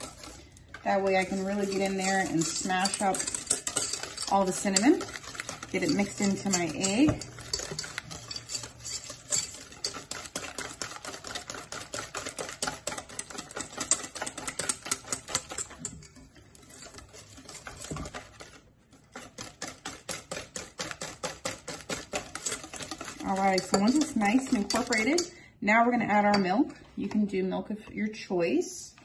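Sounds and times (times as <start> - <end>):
whisk clicking against metal bowl: 0.0 - 25.3.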